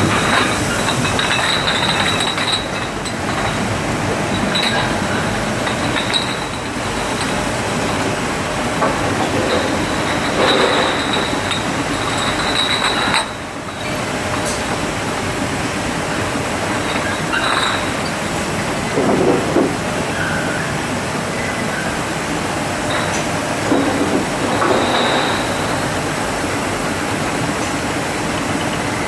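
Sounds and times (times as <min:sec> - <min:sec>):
washing machine clatter: 0:00.0 - 0:29.0.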